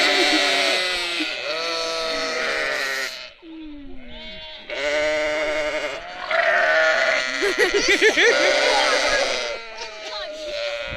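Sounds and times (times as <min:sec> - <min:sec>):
sheep bleating: 0:00.0 - 0:03.4, 0:04.0 - 0:10.9.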